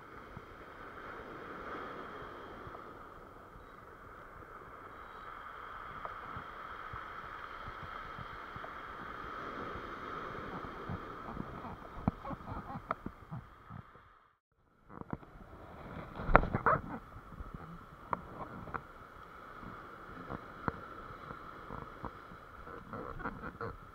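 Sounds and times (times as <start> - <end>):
surf washing up pebble beach: 0.0 - 13.3, 15.2 - 23.9.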